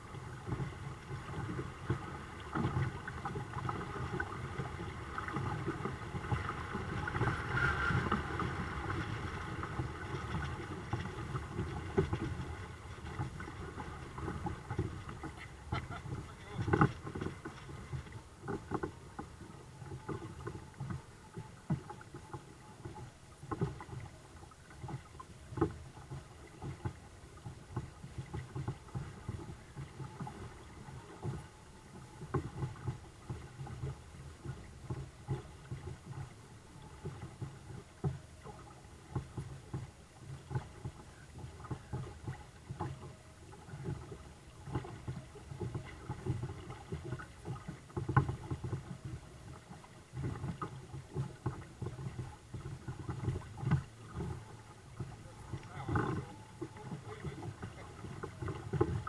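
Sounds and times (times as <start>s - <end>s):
small waves slapping against hulls: 0.0s - 59.0s.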